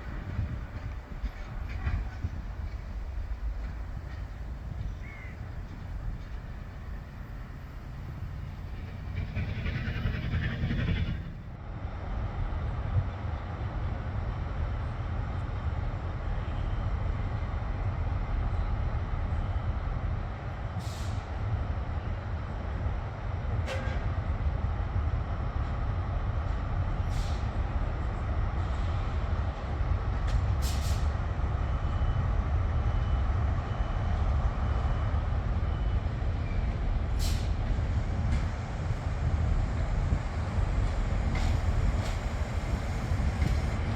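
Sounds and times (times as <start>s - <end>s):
train rumble: 0.0s - 43.9s.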